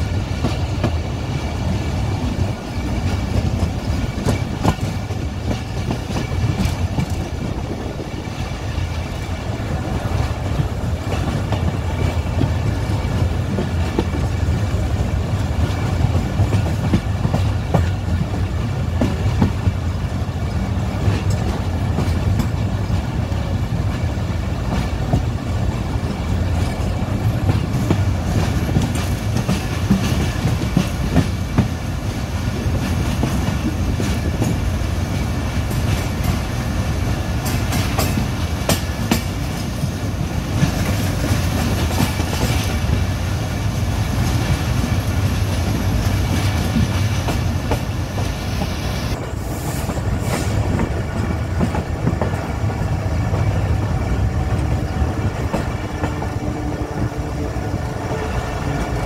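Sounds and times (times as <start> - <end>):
wheels clacking over rail joints: 0.0 - 19.9, 20.6 - 59.0
train running gear rumble: 0.0 - 59.0.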